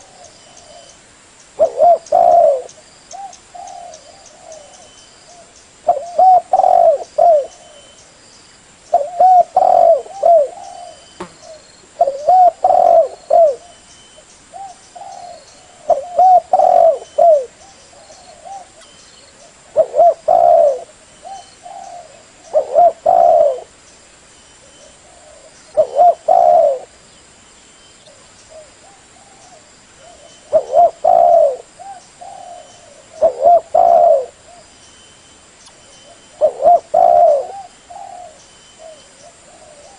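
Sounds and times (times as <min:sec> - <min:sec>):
dove cooing: 0:01.6 - 0:08.0, 0:08.9 - 0:13.8, 0:14.5 - 0:23.7, 0:24.6 - 0:27.0, 0:28.1 - 0:34.7, 0:36.0 - 0:39.9.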